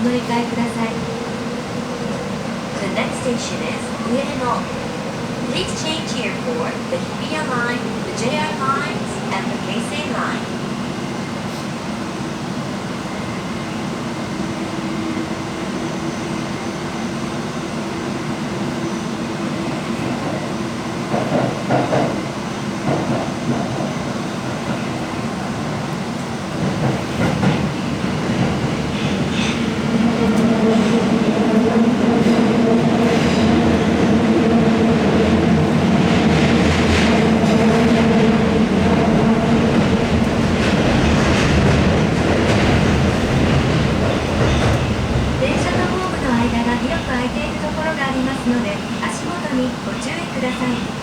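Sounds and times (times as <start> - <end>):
train wheels on rail: 0.0 - 51.0.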